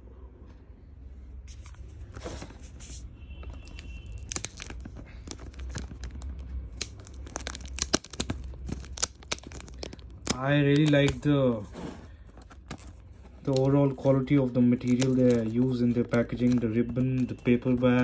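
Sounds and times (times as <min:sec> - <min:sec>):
paper wrapping tearing and crinkling: 0:03.6 - 0:18.0.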